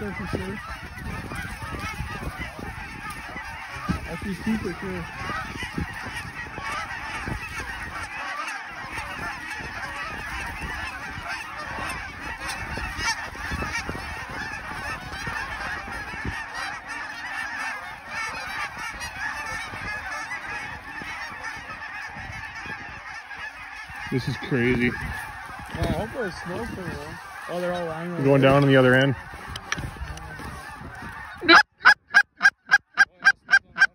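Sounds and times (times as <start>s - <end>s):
wind buffeting microphone: 0.0s - 32.1s
geese honking: 0.0s - 33.9s.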